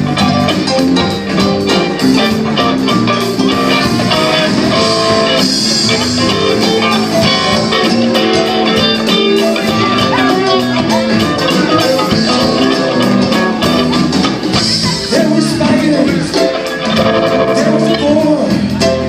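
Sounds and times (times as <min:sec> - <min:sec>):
drums steady beat: 0:00.0 - 0:19.0
electric guitar: 0:00.0 - 0:19.0.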